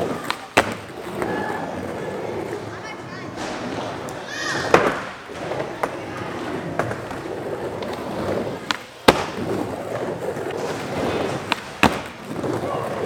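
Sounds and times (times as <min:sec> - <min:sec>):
skateboard clacks: 0:00.0 - 0:13.0
skateboard wheels rolling on wood: 0:00.0 - 0:13.0.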